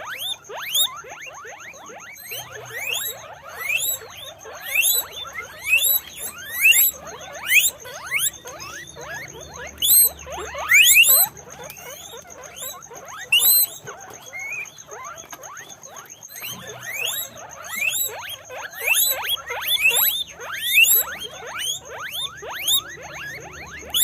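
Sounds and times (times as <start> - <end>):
guinea pigs squeaking: 0.0 - 24.0.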